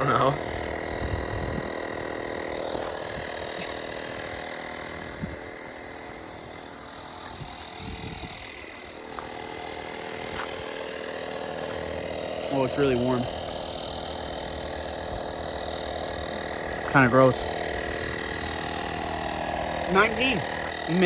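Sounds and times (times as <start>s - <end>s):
air compressor motor hum: 0.0s - 21.0s.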